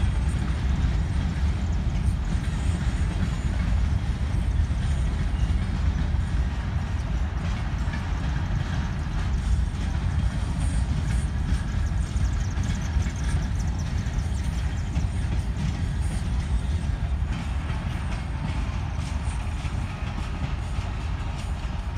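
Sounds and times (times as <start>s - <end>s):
freight train cars rumbling: 0.0s - 21.9s.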